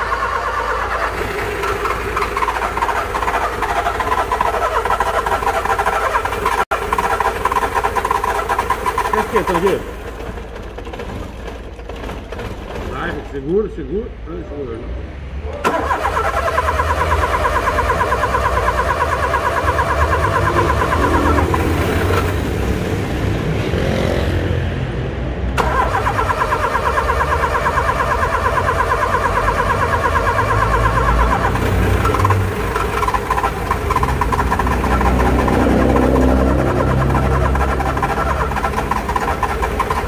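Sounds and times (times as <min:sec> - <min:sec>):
car starter rapid clicking: 0:00.0 - 0:13.6, 0:15.6 - 0:22.5, 0:25.6 - 0:40.0.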